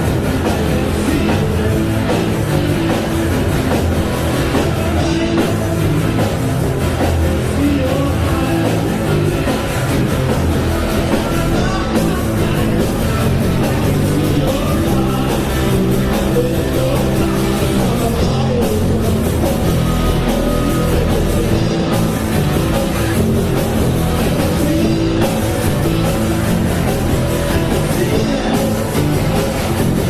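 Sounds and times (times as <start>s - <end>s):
rock music: 0.0s - 30.0s.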